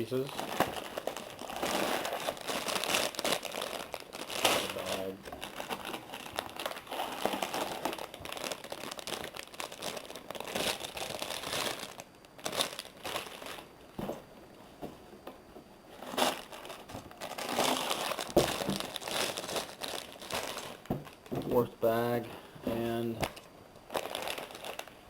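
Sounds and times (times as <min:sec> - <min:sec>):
plastic bags crinkling: 0:00.0 - 0:14.2, 0:15.9 - 0:25.0.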